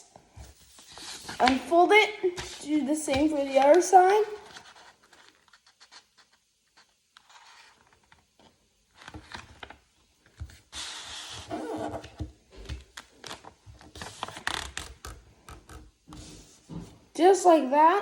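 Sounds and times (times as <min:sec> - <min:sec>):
paper rustling and crinkling: 0:00.1 - 0:15.2.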